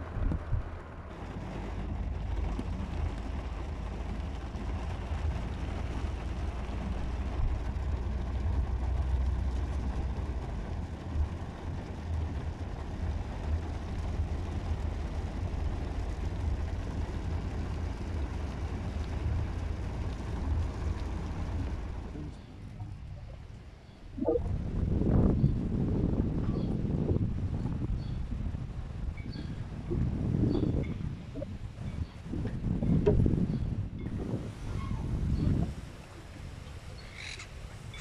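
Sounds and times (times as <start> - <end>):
road noise: 0.0 - 26.3, 30.8 - 38.0
car engine rumble: 0.0 - 38.0.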